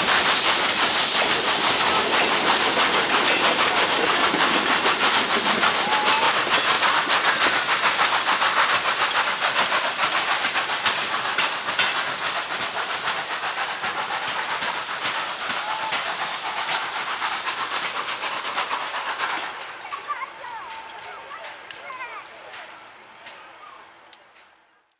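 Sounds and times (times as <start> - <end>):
steam hiss: 0.0 - 24.6
coaches rattling on rails: 0.0 - 24.9
steam locomotive exhaust beats: 0.0 - 24.9.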